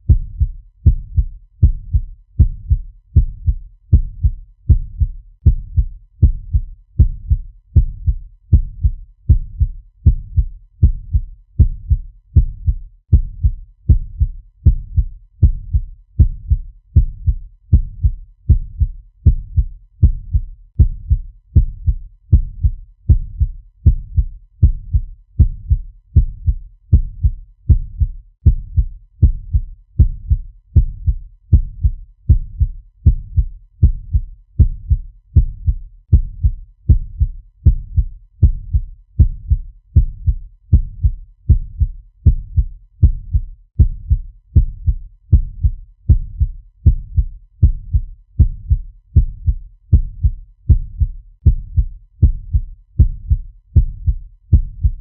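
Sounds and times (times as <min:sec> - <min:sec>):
fast heartbeat thumps: 0:00.0 - 0:55.0.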